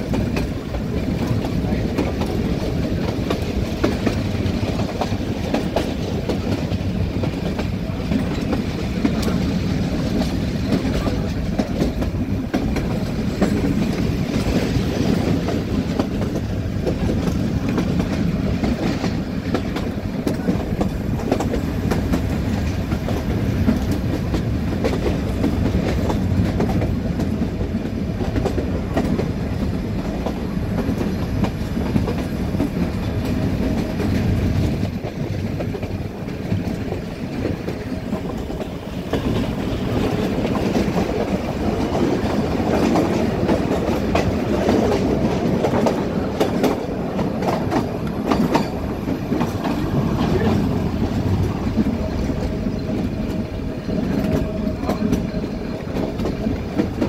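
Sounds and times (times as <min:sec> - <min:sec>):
train rumble: 0:00.0 - 0:57.0
wheels clacking over rail joints: 0:00.0 - 0:57.0.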